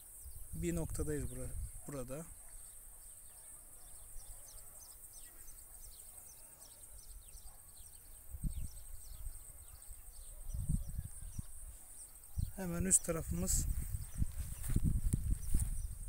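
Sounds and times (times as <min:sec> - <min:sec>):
high insect hum: 0:00.0 - 0:16.0.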